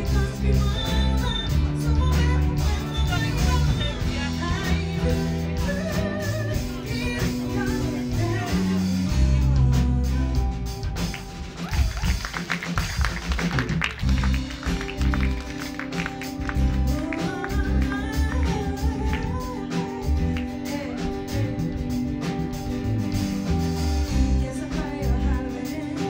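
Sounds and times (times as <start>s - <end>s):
live band with guitar and bass: 0.0s - 26.0s.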